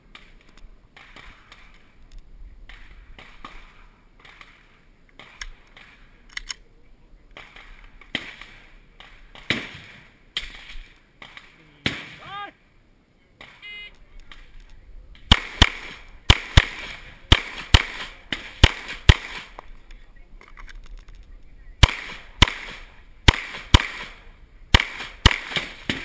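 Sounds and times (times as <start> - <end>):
sharp crack: 0.0 - 6.7, 7.3 - 12.5, 13.4 - 26.0
low hiss: 0.0 - 26.0.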